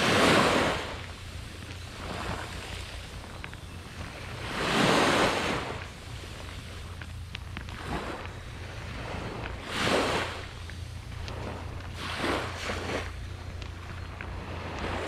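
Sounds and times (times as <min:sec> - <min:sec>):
small waves breaking on sand: 0:00.0 - 0:15.0
wind rumble on microphone: 0:00.0 - 0:15.0.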